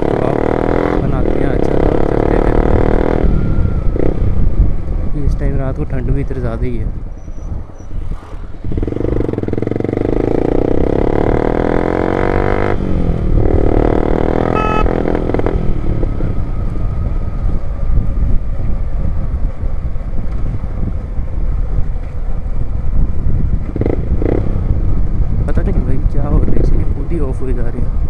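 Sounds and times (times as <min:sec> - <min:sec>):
motorcycle engine running: 0:00.0 - 0:05.1, 0:07.0 - 0:26.5
road rumble: 0:00.0 - 0:28.0
wind: 0:00.0 - 0:28.0.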